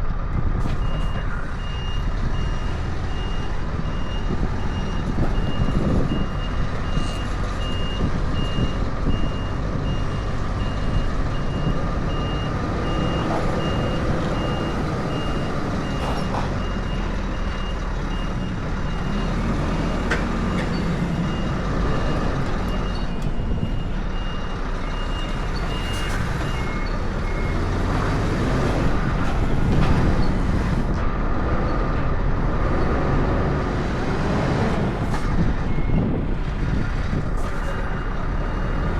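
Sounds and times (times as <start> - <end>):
diesel truck engine running: 0.0 - 38.9
truck reversing alarm beeping: 0.7 - 29.1, 34.4 - 38.9.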